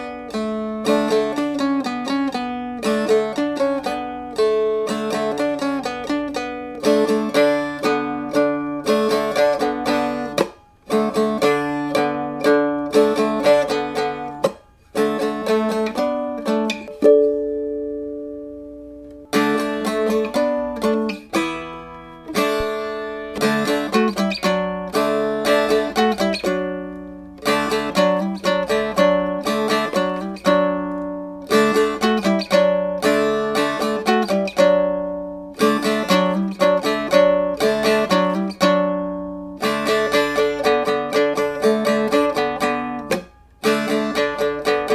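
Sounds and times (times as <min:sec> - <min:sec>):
plucked string instrument melody: 0:00.0 - 0:44.9.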